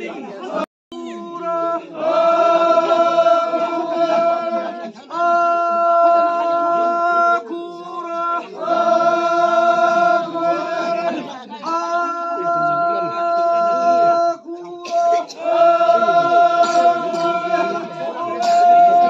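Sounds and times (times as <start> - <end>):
group chanting in held notes: 0.0 - 19.0.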